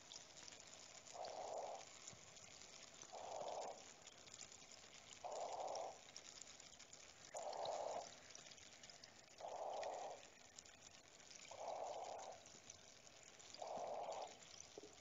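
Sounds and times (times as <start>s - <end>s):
soft pouring water rush: 0.0s - 15.0s
water dripping and trickling: 0.0s - 15.0s.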